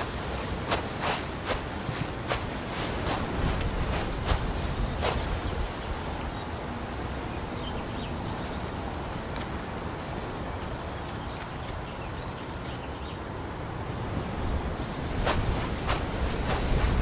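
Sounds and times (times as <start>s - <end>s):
steady rushing forest noise: 0.0s - 17.0s.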